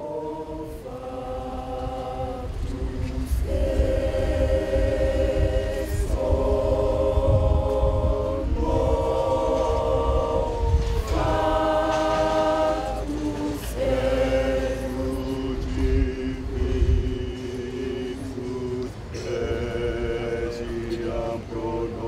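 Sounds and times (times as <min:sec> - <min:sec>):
steady low rumble: 0:00.0 - 0:22.0
women's choir singing: 0:00.0 - 0:22.0.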